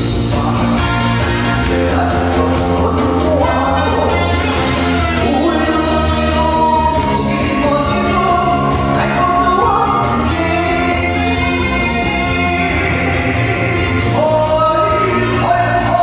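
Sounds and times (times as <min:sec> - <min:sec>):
amplified accompaniment with bass: 0:00.0 - 0:16.0
man singing into microphone: 0:00.0 - 0:16.0.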